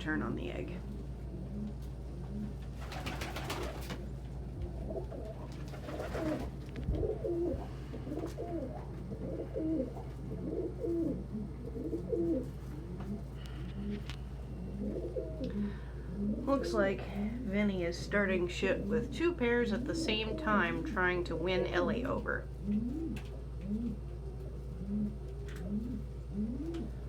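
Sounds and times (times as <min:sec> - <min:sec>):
steady low hum: 0:00.0 - 0:27.0
pigeons cooing: 0:00.8 - 0:27.0.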